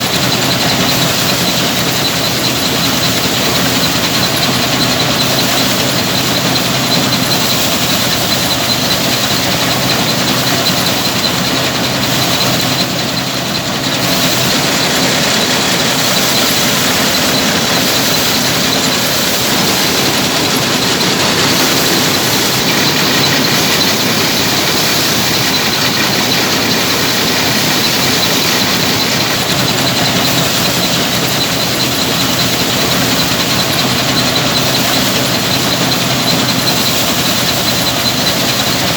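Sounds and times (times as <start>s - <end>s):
thresher mechanical clatter: 0.0s - 38.9s.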